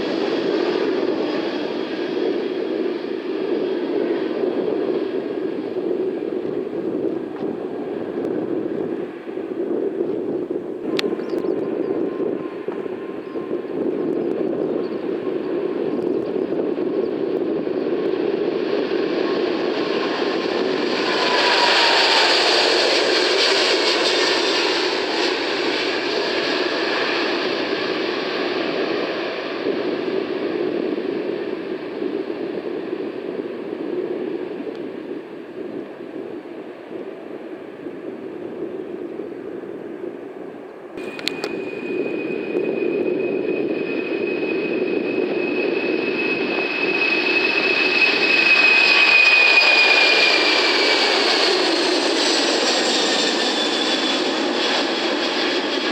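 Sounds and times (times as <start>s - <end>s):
high engine whine: 0.0s - 36.1s, 38.6s - 55.9s
jet engines passing: 0.0s - 55.9s.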